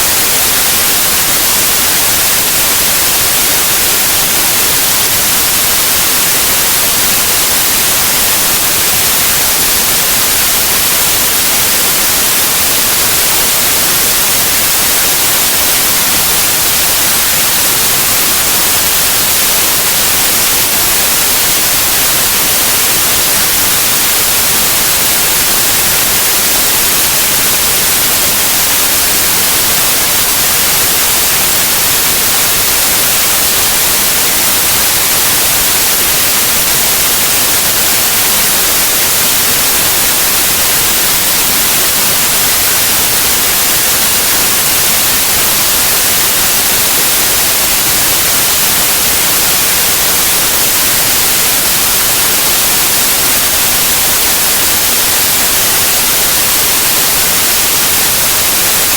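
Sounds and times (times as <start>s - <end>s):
loud white noise hiss: 0.0s - 58.9s.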